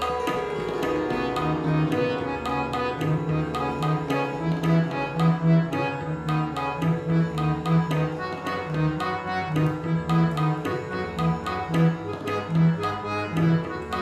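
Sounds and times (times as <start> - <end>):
harmonium playing: 0.0 - 14.0
tabla: 0.0 - 14.0.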